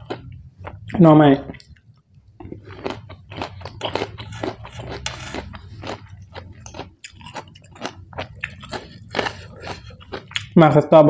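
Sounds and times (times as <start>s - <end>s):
person chewing food: 0.0s - 10.6s.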